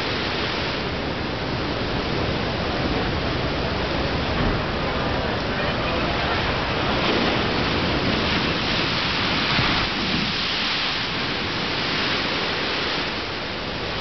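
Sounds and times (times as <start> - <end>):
ocean surf on sand: 0.0 - 14.0.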